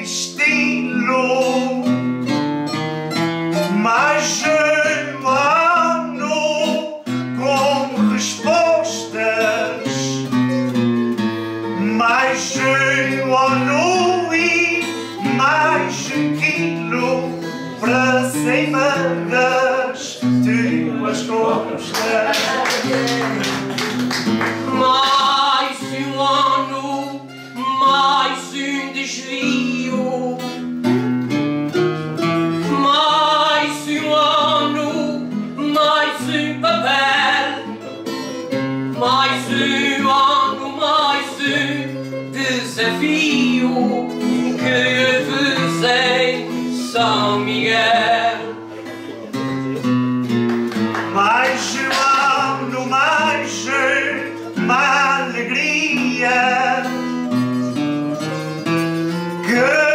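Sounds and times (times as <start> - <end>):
plucked string ensemble music: 0.0 - 59.9.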